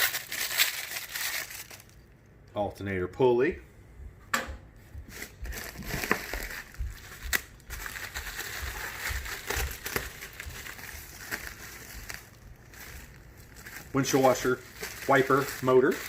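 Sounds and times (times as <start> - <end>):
packing material crinkling: 0.0 - 2.0, 5.1 - 16.0.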